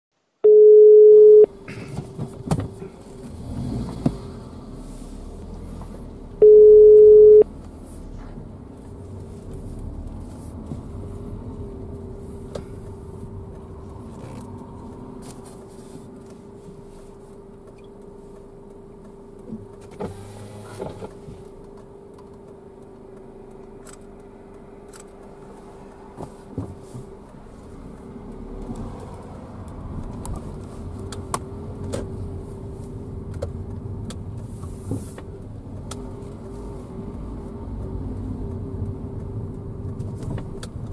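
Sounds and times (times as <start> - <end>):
car cabin hum and rumble: 0.4 - 40.9.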